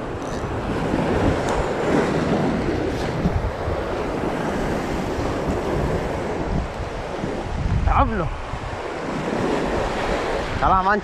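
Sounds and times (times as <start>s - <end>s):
surf washing over rocks: 0.0s - 11.0s
wind buffeting microphone: 0.0s - 11.0s.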